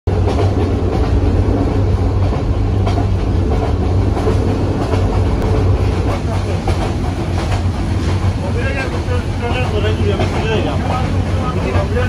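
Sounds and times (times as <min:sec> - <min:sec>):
clacks from the track: 0:00.1 - 0:12.0
train wheels rumbling: 0:00.1 - 0:12.0.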